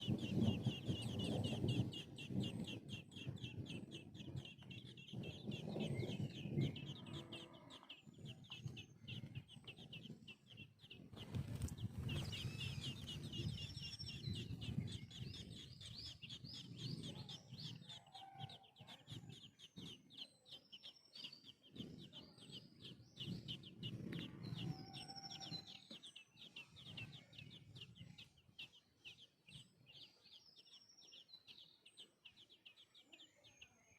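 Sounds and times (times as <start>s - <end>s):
birds chirping: 0.0s - 33.9s
lower-pitched bird sounds: 0.0s - 33.9s.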